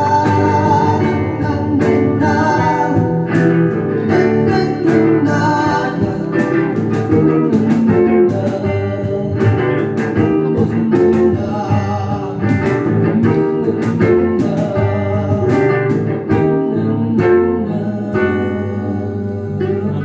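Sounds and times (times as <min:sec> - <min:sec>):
guitar music with steady beat: 0:00.0 - 0:20.0
person singing: 0:00.0 - 0:20.0.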